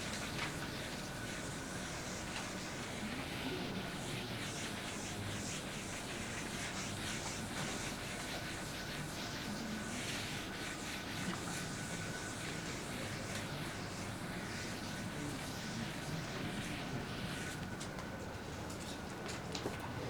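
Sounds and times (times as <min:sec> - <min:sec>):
writing scratching strokes: 0:00.0 - 0:17.7
room noise hiss: 0:00.0 - 0:20.0.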